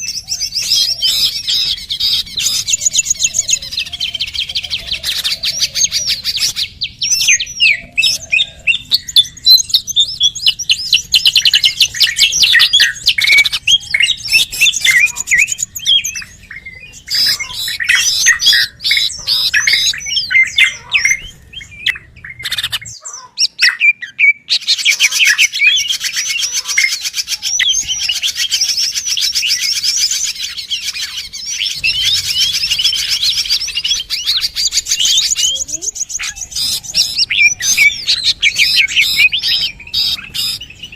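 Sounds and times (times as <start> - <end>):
small birds chirping chorus: 0.0 - 40.9.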